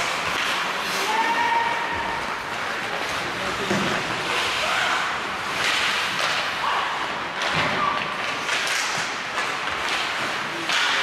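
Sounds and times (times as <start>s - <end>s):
puck and sticks hitting boards: 0.0s - 11.0s
skates scraping on ice: 0.0s - 11.0s.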